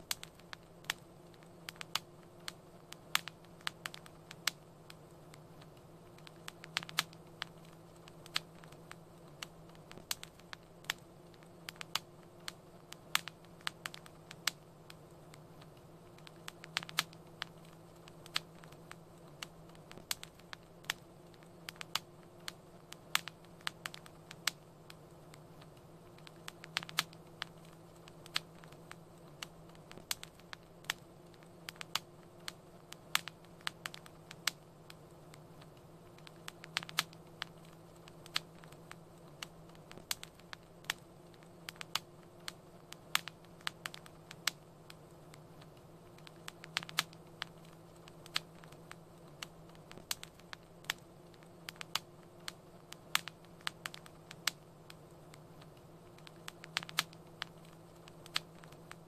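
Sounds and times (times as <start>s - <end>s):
low steady hum: 0.0s - 59.0s
wood fire crackling: 0.0s - 59.0s.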